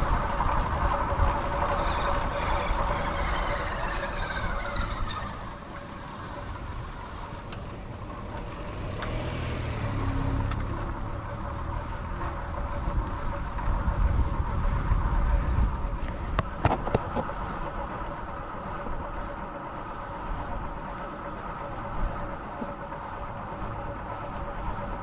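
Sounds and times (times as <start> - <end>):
low engine rumble: 0.0 - 25.0
motor vehicles passing: 0.0 - 25.0.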